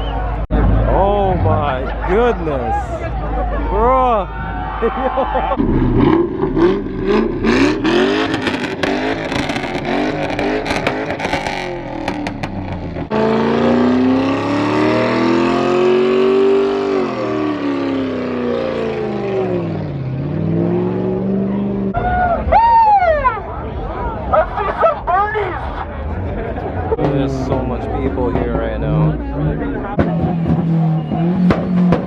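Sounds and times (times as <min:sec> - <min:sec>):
car engines revving: 0:00.0 - 0:22.5, 0:23.2 - 0:32.0.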